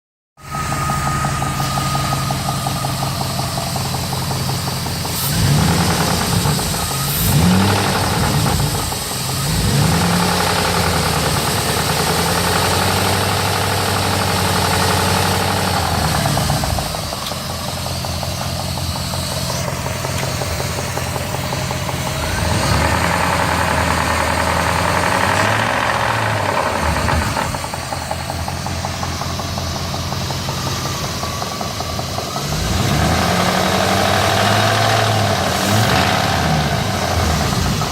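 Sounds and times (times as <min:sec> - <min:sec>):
engine revving: 0:00.4 - 0:37.9
engine idling with tapping tick: 0:00.6 - 0:37.9.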